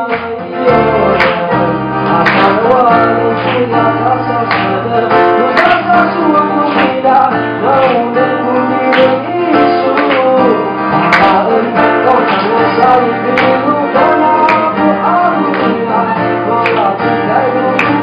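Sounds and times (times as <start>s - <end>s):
acoustic guitar strumming: 0.0s - 18.0s
man singing: 0.0s - 18.0s.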